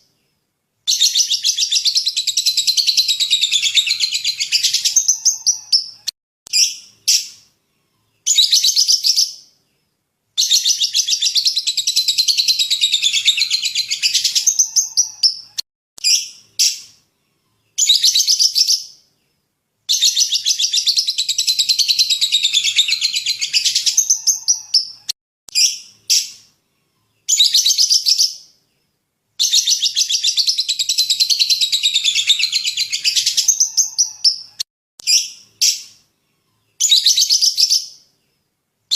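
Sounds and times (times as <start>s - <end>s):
songbird singing with trills: 0.9s - 9.7s, 10.4s - 28.8s, 29.4s - 38.3s.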